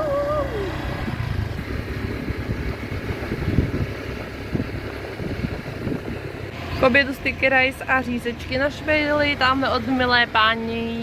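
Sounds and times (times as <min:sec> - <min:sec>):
scooter engine running: 0:00.0 - 0:11.0
wind buffeting microphone: 0:00.0 - 0:11.0.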